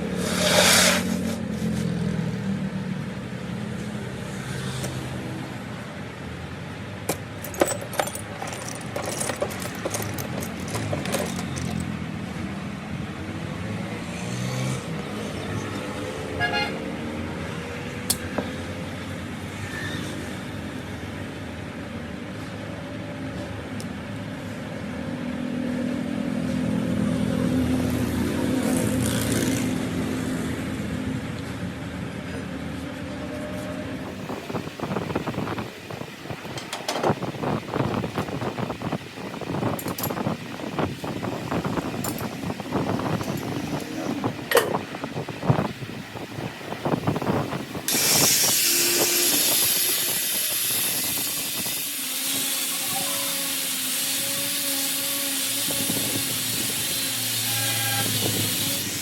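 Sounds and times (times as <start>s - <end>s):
vehicle engines passing: 0.0s - 47.9s.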